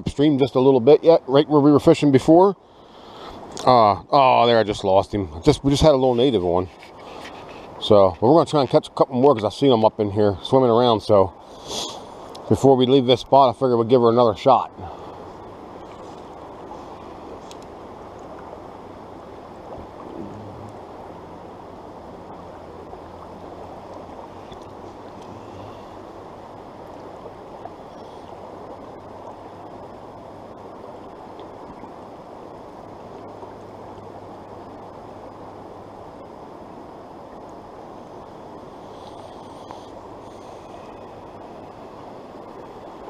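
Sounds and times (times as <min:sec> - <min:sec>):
rocky stream rushing: 0:03.1 - 0:43.0.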